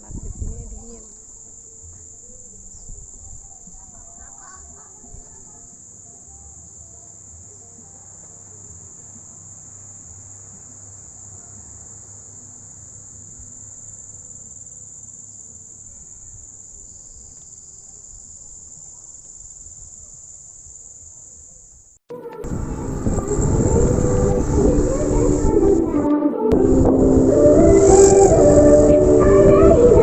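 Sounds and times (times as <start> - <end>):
high-pitched insect chorus: 0.0 - 25.7, 26.6 - 30.0.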